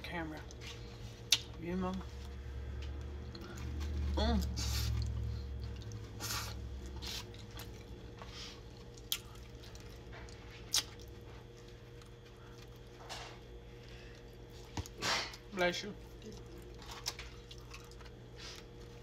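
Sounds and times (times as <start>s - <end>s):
person chewing with wet smacks: 0.3s - 1.6s, 2.2s - 19.0s.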